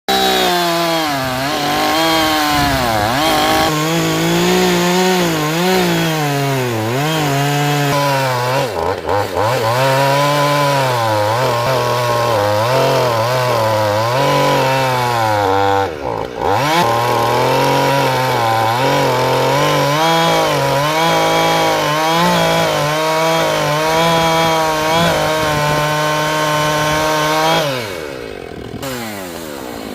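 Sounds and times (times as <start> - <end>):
chainsaw cutting logs: 0.1 - 29.9.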